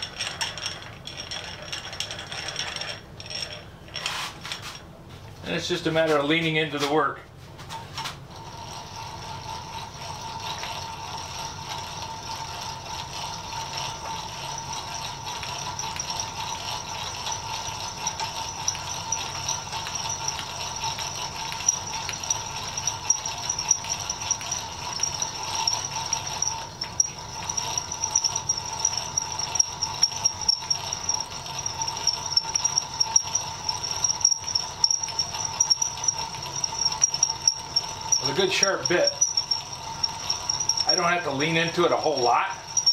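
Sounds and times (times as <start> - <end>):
hand drill squealing into steel: 0.0 - 4.8, 8.4 - 42.9
sharp drill ticks: 8.5 - 42.9.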